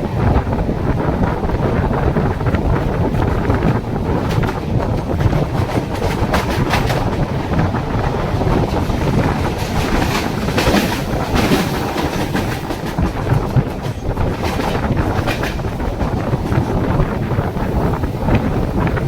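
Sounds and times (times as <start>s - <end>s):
train wheels rattling on track: 0.0s - 19.0s
clacks over rail joints: 0.3s - 19.0s.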